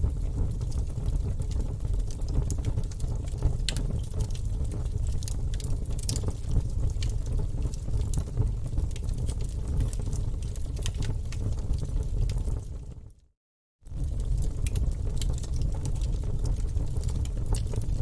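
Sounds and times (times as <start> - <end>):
wood fire crackling: 0.0 - 13.1, 13.9 - 18.0.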